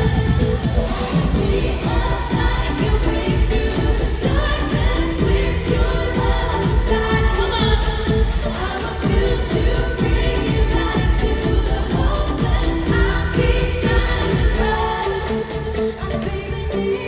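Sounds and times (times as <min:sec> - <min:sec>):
backing track with bass beat: 0:00.0 - 0:16.7
women singing pop song: 0:00.0 - 0:17.0.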